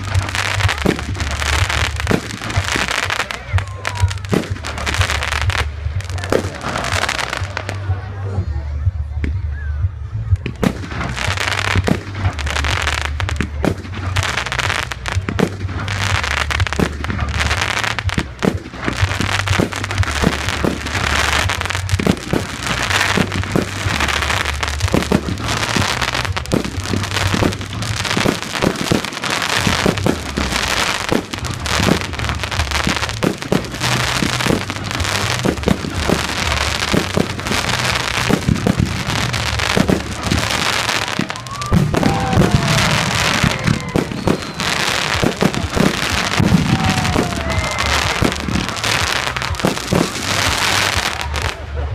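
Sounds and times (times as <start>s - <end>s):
fireworks crackling and popping: 0.0s - 8.3s, 9.0s - 51.9s
low rumble of fireworks booms: 0.0s - 51.9s.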